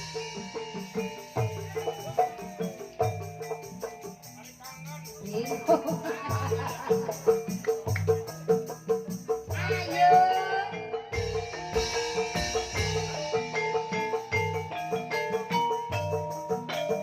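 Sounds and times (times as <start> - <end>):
gamelan music: 0.0 - 17.0.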